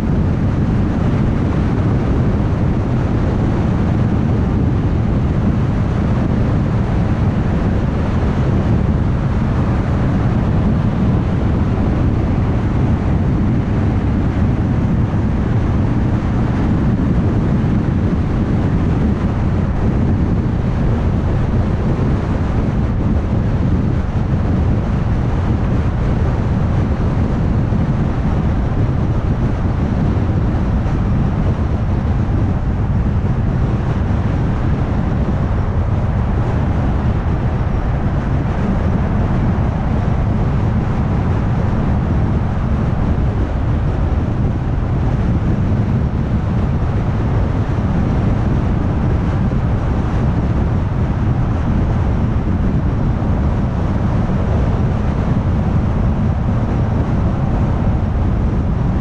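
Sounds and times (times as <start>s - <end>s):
car road noise: 0.0s - 52.4s.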